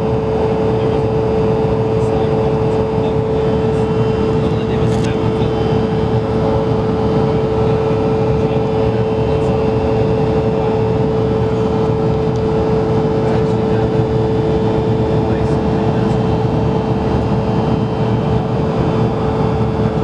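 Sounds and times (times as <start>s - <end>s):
jet engines and airflow drone: 0.0s - 20.0s
mid-pitched hum: 0.0s - 20.0s.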